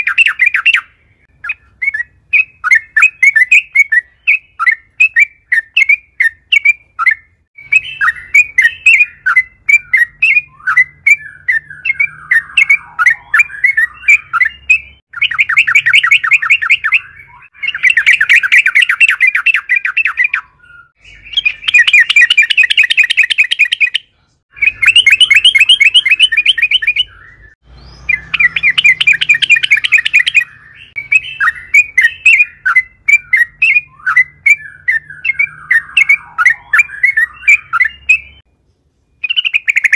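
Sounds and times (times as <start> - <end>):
fast rattling bird trills: 0.0 - 38.4, 39.2 - 39.9
bird chirping: 0.0 - 39.9.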